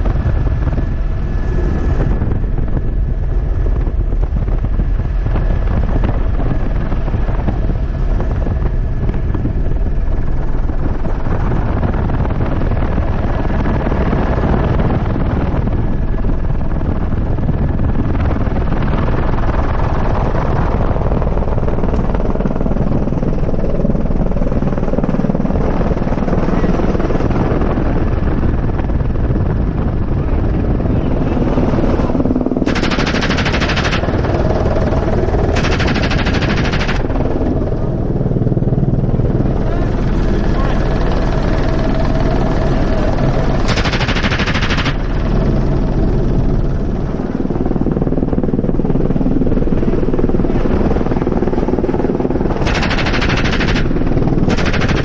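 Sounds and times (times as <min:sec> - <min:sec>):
helicopter rotor and turbine drone: 0:00.0 - 0:55.0
wind noise: 0:00.0 - 0:55.0.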